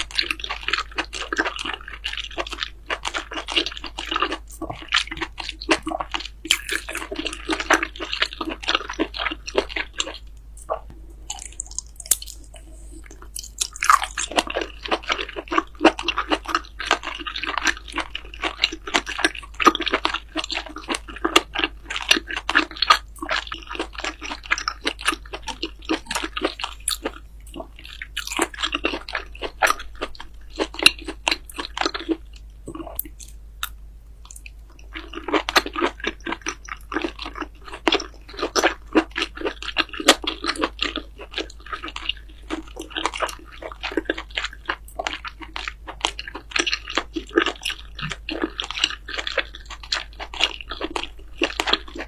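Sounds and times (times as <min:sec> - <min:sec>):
person chewing with loud crunching: 0:00.0 - 0:52.0.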